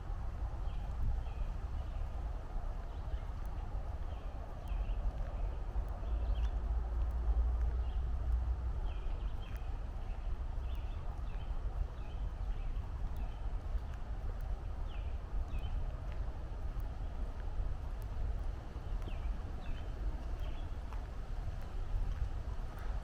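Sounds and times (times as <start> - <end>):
footsteps on a trail: 0.7 - 23.0.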